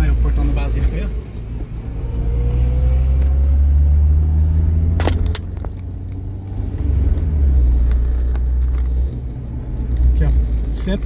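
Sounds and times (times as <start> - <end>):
car interior road and engine noise: 0.0 - 11.0.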